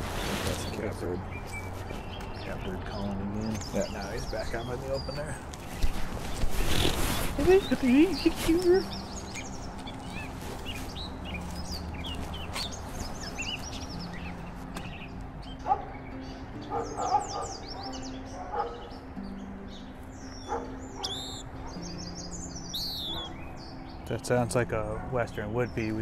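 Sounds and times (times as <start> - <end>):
songbirds chirping and singing: 0.0 - 26.0
lower-pitched bird calls: 0.1 - 24.0.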